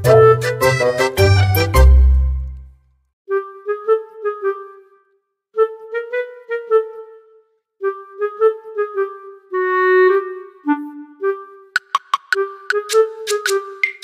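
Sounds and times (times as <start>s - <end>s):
light clarinet melody: 0.0s - 1.8s, 3.3s - 13.8s.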